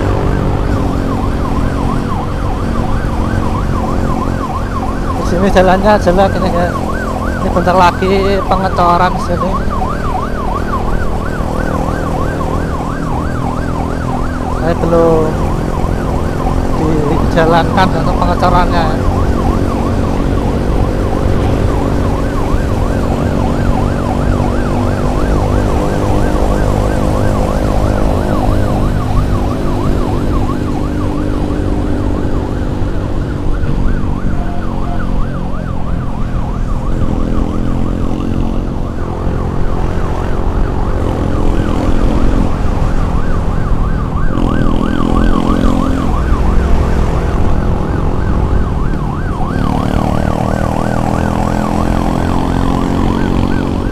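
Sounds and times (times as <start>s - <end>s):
emergency siren yelping: 0.0s - 53.9s
engine and road rumble: 0.0s - 53.9s.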